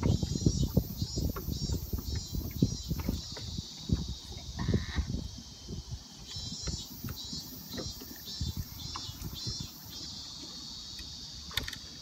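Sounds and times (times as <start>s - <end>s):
boat knocks and rumble: 0.0s - 5.4s, 6.2s - 12.0s
cicada buzzing: 0.0s - 12.0s.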